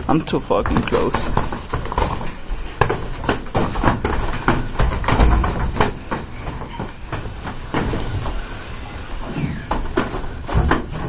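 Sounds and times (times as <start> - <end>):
people fighting with thuds and scrapes: 0.0 - 11.0.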